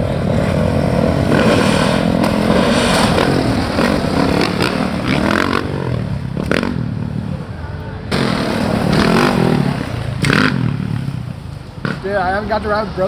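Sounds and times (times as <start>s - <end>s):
dirt bike engine revving: 0.0s - 7.5s, 8.1s - 12.6s.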